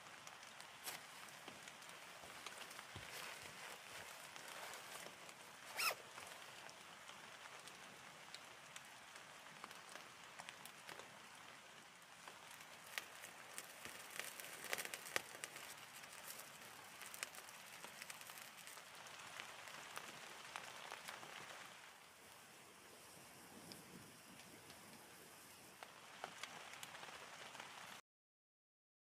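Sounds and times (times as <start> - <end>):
light rain on leaves: 0.0 - 28.0.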